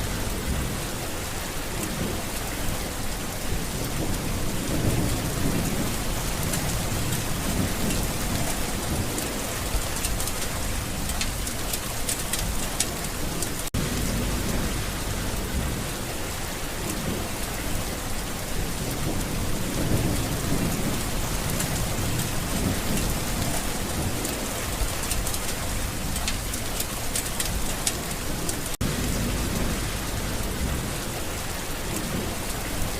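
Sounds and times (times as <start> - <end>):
heavy rain: 0.0 - 32.9
thunder rumbling: 0.0 - 32.9.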